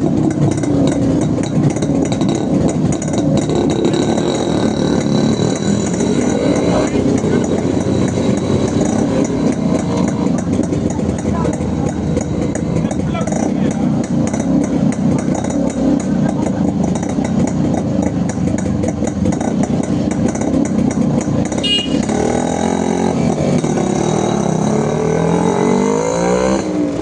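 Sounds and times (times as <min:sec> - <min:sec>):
two-stroke motorcycle engine revving: 0:00.0 - 0:27.0.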